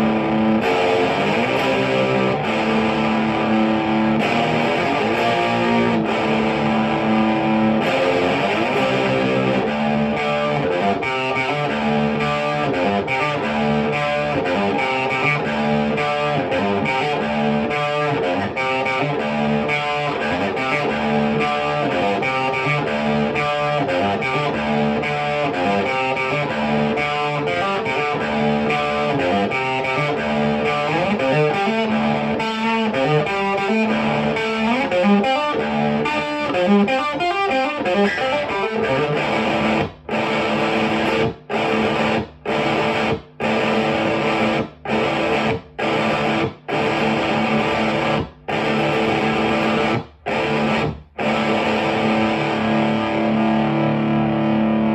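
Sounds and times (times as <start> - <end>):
electric guitar riff: 0.0 - 54.9.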